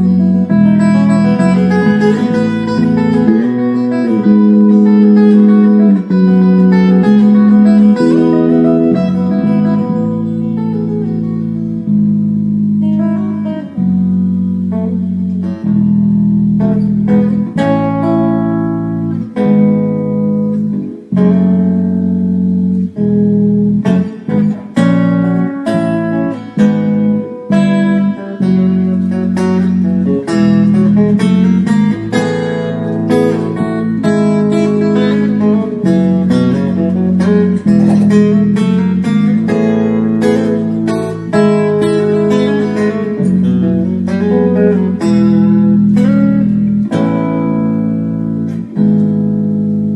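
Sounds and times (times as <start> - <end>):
guitar ringing chords: 0.0 - 49.9.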